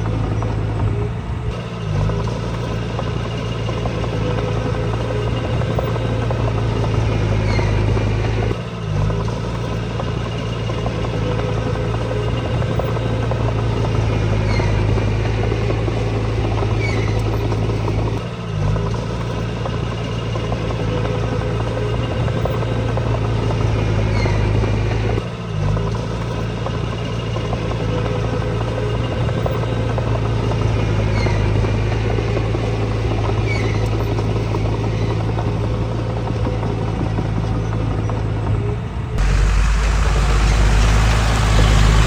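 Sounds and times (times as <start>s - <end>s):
heavy diesel engine running: 0.0s - 42.0s.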